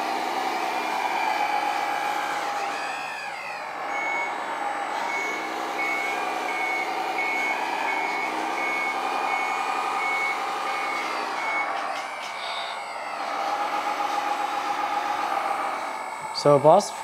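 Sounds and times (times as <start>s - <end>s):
simulated diesel engine: 0.0s - 17.0s
high reversing beeper: 2.7s - 17.0s.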